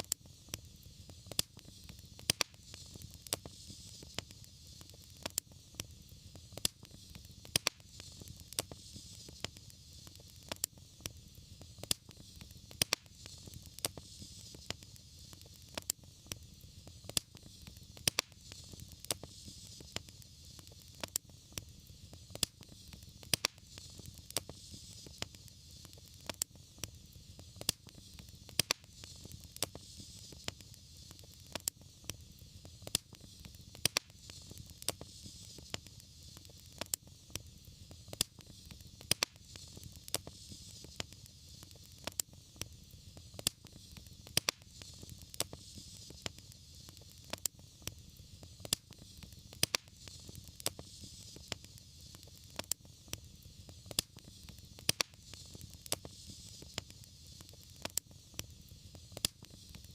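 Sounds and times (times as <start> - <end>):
fire crackling and popping: 0.0 - 59.9
fire rumble and hiss: 0.0 - 59.9.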